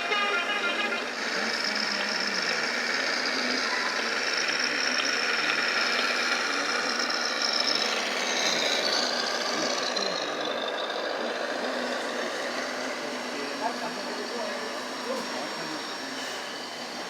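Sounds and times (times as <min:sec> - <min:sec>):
small electric motors whining: 0:00.0 - 0:17.0.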